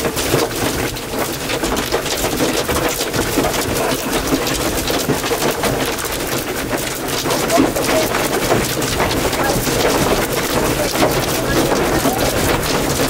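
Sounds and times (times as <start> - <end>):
hail and rain pelting vehicle roof: 0.0 - 13.0.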